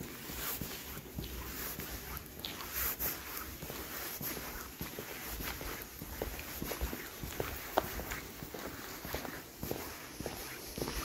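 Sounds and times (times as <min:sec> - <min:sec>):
footsteps on hard surface: 0:00.0 - 0:11.0
steady background hiss: 0:00.0 - 0:11.0.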